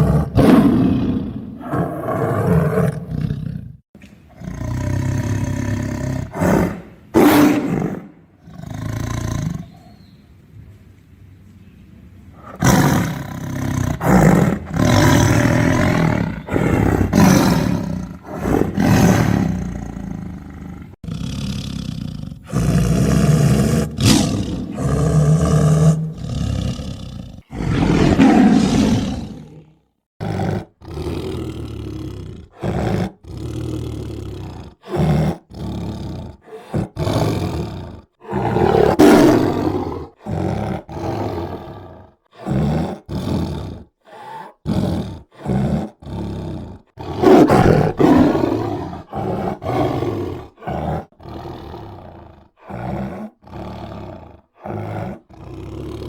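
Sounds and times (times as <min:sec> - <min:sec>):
tiger roaring and snarling: 0:00.0 - 0:09.9, 0:12.4 - 0:56.0.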